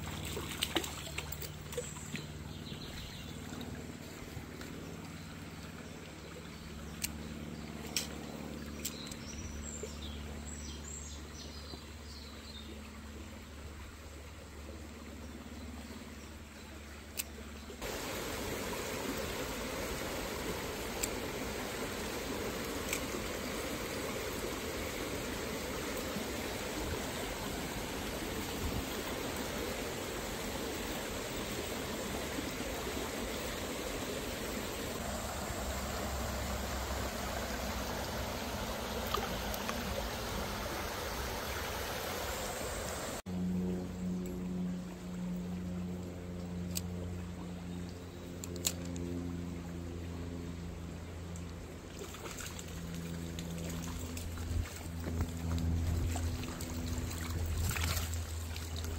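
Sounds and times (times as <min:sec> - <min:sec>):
stream running over rocks: 0:00.0 - 0:43.2, 0:51.0 - 0:58.9.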